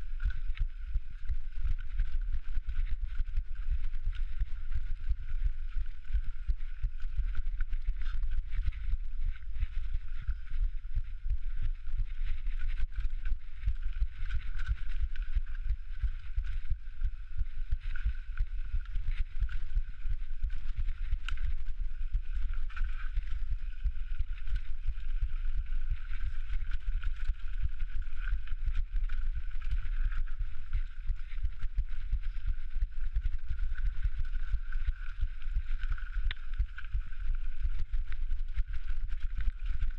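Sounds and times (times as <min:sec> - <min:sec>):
mountain bike on rocky trail: 0:00.0 - 0:39.9.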